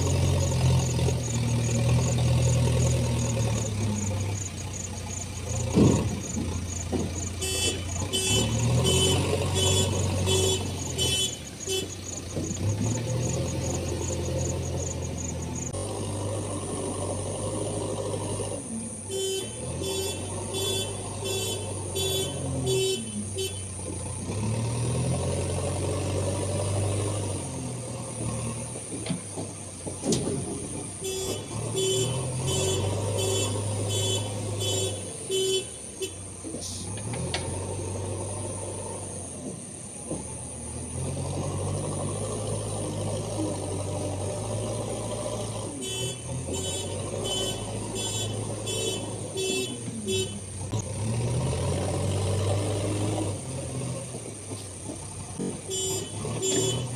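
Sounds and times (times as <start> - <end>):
diesel engine revving: 0.0 - 56.9.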